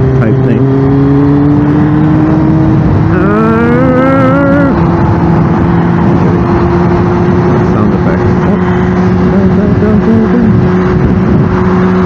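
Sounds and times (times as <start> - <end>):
motorcycle engine cruising: 0.0 - 12.0
wind and road rush: 0.0 - 12.0.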